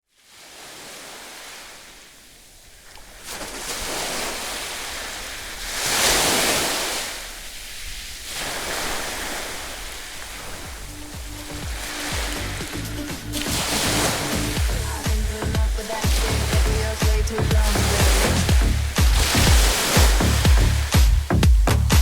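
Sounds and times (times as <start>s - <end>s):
ocean waves breaking on beach: 0.1s - 22.0s.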